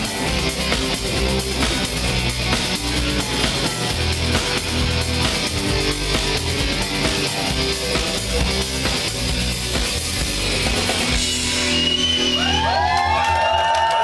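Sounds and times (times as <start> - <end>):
rock band playing: 0.0 - 13.7.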